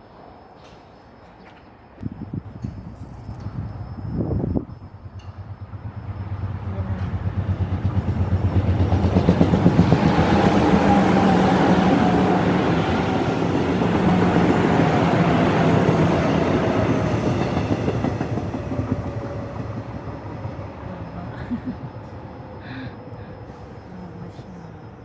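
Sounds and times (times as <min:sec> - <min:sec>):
subway train wheel clatter: 0:00.0 - 0:25.0
train motor whine: 0:02.0 - 0:25.0.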